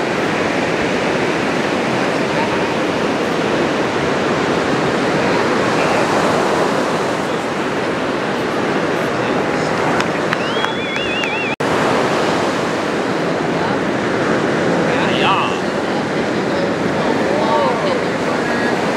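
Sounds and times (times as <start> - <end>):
ocean waves breaking: 0.0 - 18.9.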